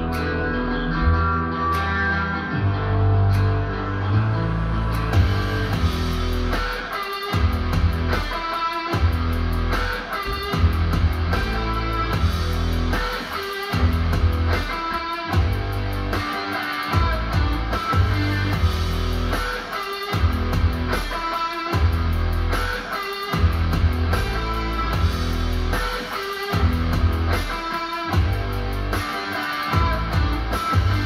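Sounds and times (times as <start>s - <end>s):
guitar music through speaker: 0.0s - 31.0s.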